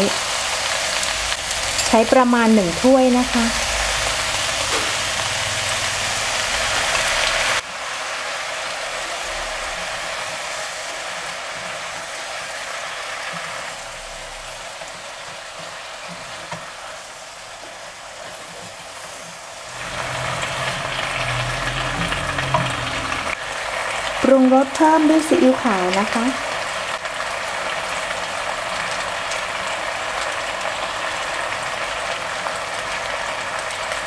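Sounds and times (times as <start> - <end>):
stir-fry sizzling in a pan: 0.0 - 34.0.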